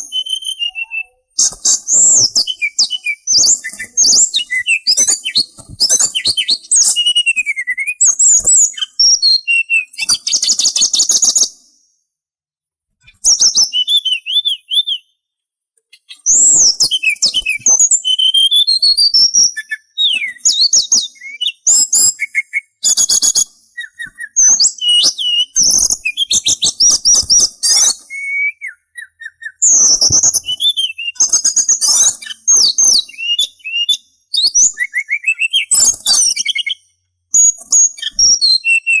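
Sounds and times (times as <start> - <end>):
songbird whistling and trilling: 0.0 - 11.8, 13.0 - 15.3, 15.9 - 39.0.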